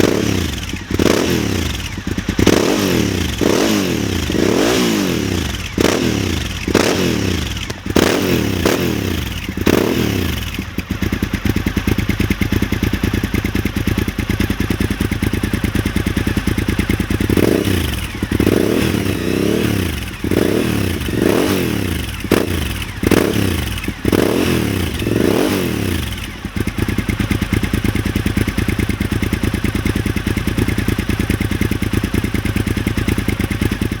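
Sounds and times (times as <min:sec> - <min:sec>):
motorcycle engine revving and idling: 0:00.0 - 0:34.0.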